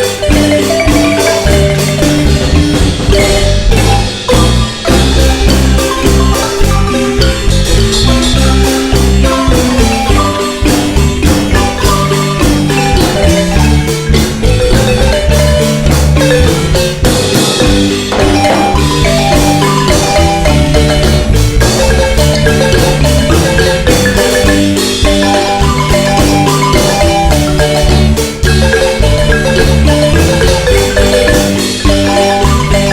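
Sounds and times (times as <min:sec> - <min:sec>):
marimba ensemble playing: 0:00.0 - 0:32.9
steady bass line: 0:00.0 - 0:32.9.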